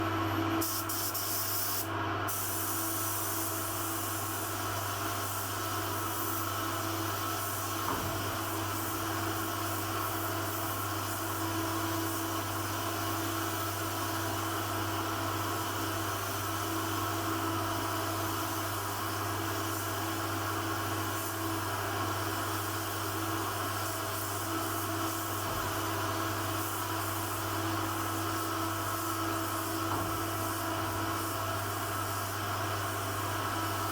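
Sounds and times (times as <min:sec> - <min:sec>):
machine hum with hiss: 0:00.0 - 0:33.9.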